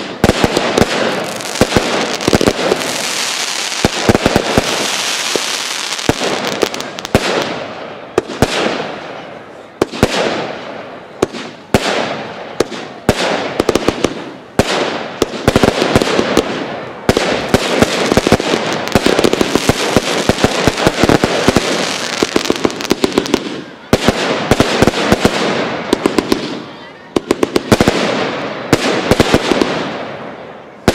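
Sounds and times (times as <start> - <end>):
firework crackle: 0.0 - 30.9.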